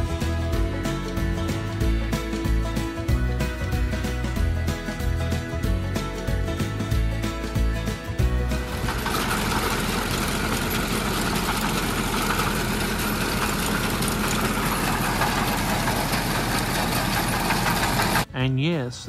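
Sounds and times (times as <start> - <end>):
tractor engine drone: 0.0 - 18.3.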